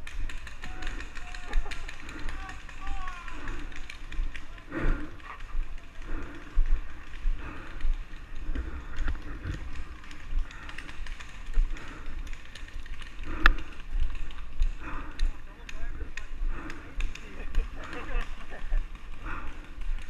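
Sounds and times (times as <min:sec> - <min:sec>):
footsteps: 0:00.0 - 0:20.0
sharp crack: 0:00.0 - 0:20.0.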